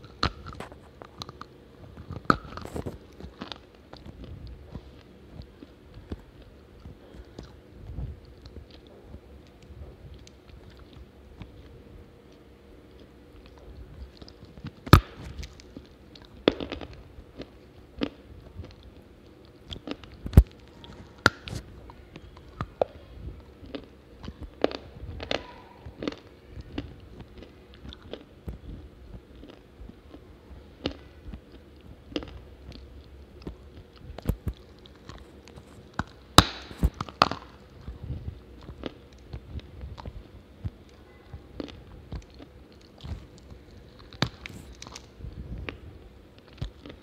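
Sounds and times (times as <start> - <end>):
dry clay crunching in mouth: 0.0 - 7.6, 8.2 - 22.9, 23.6 - 40.8, 41.6 - 45.8, 46.4 - 47.0.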